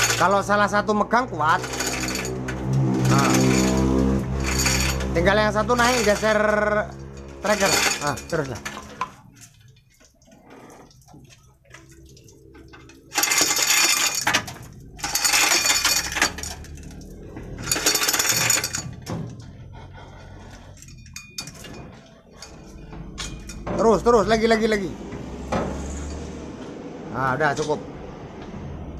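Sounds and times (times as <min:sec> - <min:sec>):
hoist chain rattling and clinking: 0:00.0 - 0:26.3.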